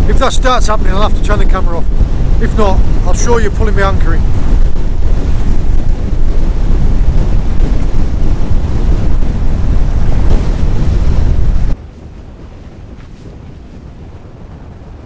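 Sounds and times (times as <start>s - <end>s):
choppy sea washing against boat: 0.0s - 15.0s
wind buffeting microphone: 0.0s - 15.0s.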